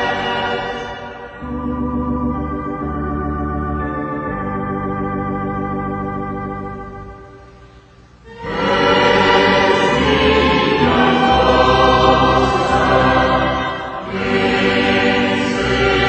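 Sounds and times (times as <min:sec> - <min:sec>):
church organ playing chords: 0:00.0 - 0:16.0.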